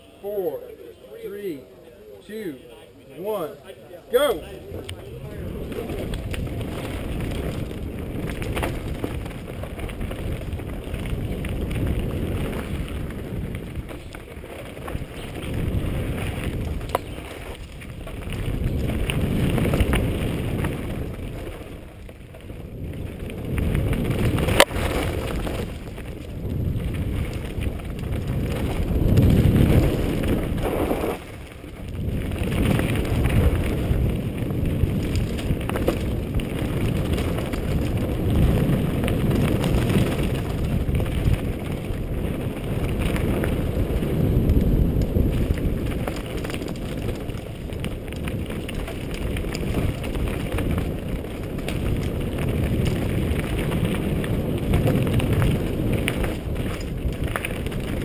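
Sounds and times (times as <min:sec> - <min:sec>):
wind buffeting microphone: 0:00.0 - 0:58.0
bike tyres rumbling over dirt: 0:03.6 - 0:58.0.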